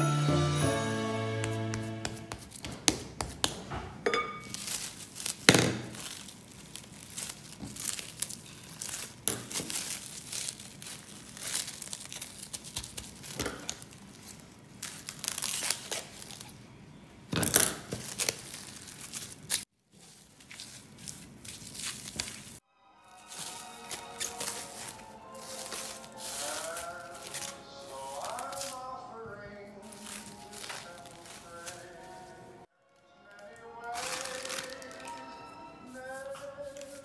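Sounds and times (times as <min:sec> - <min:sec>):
cling wrap crinkling and rustling: 0:04.4 - 0:16.6, 0:17.4 - 0:22.6, 0:23.2 - 0:32.6, 0:33.3 - 0:37.0.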